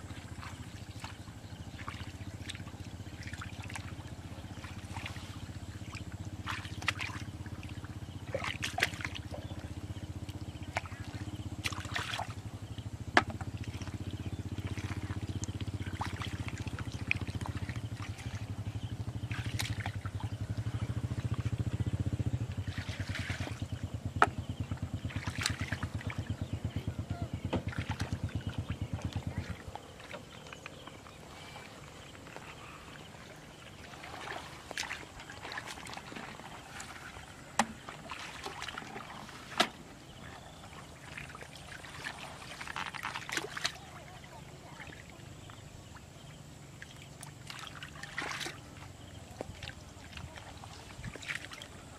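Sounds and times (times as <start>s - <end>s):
low pulsing motor drone: 0.0s - 51.9s
water trickling: 0.0s - 51.9s
hands splashing in muddy water: 0.1s - 12.5s, 13.2s - 44.2s, 46.8s - 51.9s.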